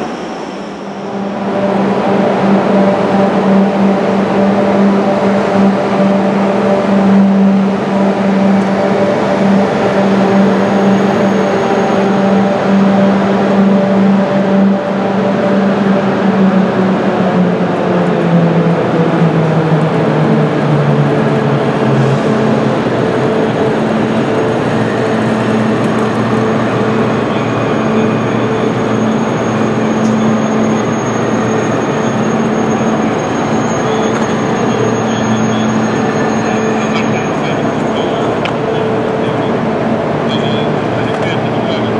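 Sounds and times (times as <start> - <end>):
train engine humming: 0.0 - 41.9.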